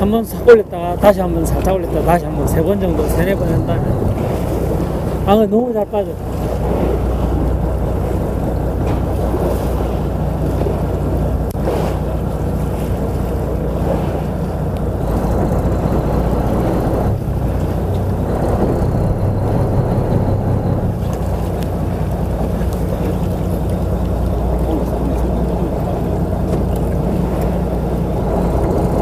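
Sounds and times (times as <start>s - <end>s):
boat engine humming: 0.0s - 29.0s
water washing: 0.0s - 29.0s
wind against microphone: 0.0s - 29.0s.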